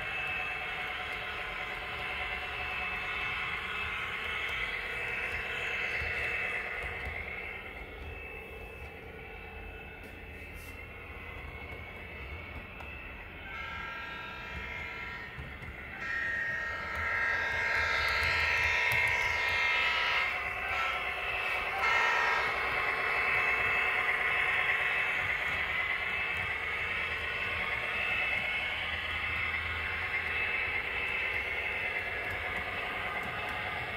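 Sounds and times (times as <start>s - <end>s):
model train motor whine: 0.0s - 33.9s.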